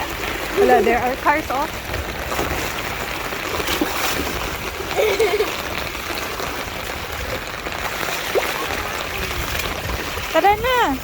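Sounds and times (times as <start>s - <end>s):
feet wading through water: 0.0s - 11.0s
water wash: 0.0s - 11.0s.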